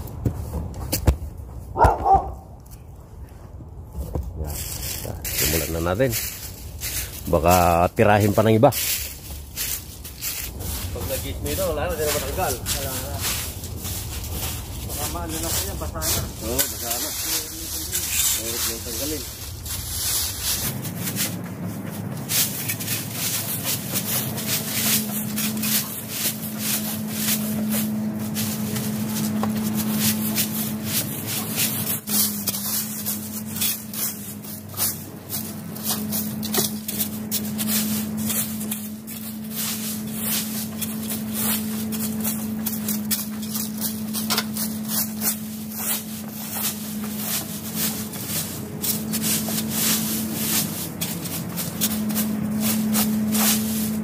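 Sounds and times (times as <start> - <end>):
steady low hum: 0.0 - 54.0
rake scraping through leaves: 4.4 - 54.0.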